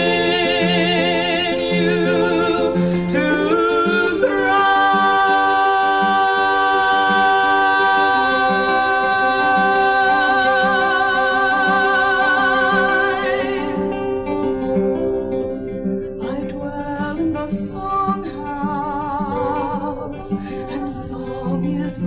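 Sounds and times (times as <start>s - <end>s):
acoustic guitar picking: 0.0s - 22.0s.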